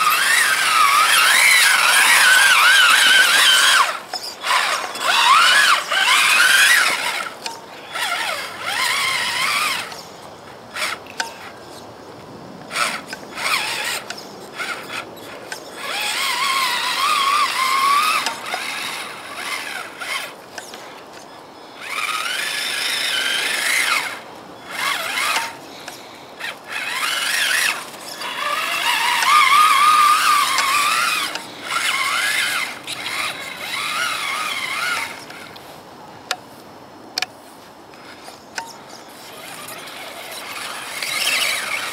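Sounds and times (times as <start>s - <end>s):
electric motor whining: 0.0s - 11.8s, 12.6s - 20.9s, 21.7s - 35.8s, 38.0s - 41.9s.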